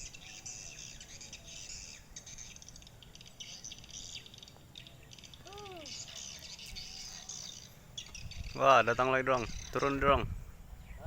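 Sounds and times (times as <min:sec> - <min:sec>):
lower arched bird call: 0:00.0 - 0:10.0.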